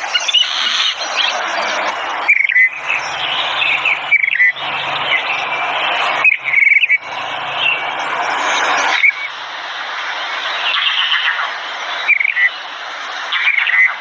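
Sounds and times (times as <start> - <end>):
songbirds trilled chirps: 0.0 - 9.4, 10.1 - 12.7.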